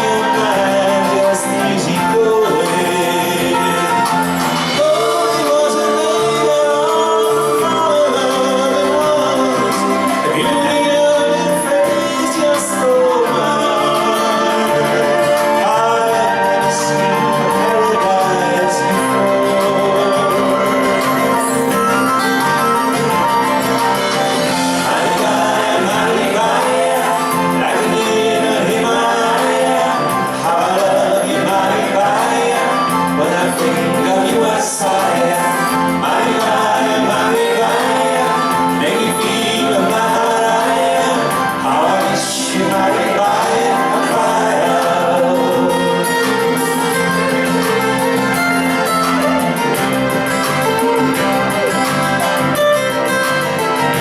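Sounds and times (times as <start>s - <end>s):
live pop band with vocals: 0.0s - 54.0s.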